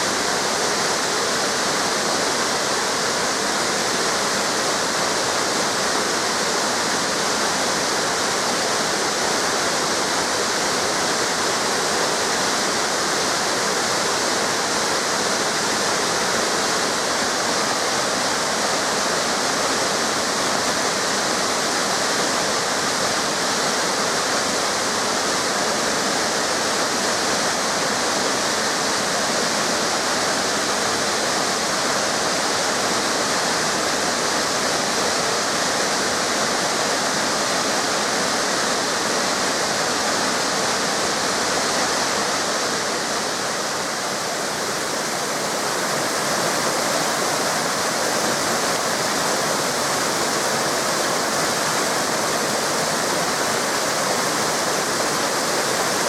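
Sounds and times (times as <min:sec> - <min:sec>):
river water cascading over waterfalls: 0:00.0 - 0:56.0.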